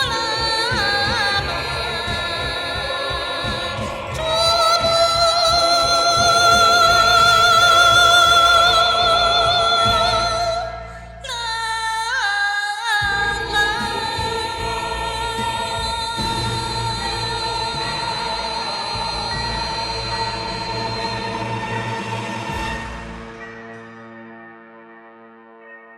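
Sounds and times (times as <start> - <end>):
woman singing a ballad: 0.0 - 21.8
backing track: 0.0 - 24.5.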